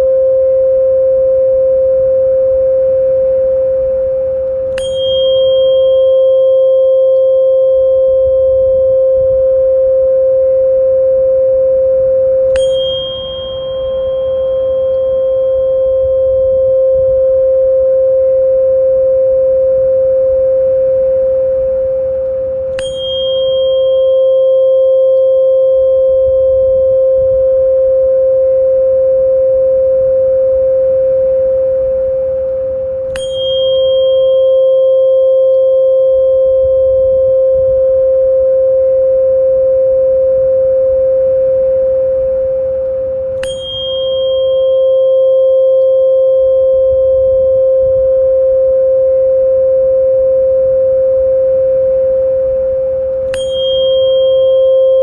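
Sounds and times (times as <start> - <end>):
tuning fork ringing: 0.0 - 55.0
metallic tap on tuning fork: 4.4 - 55.0.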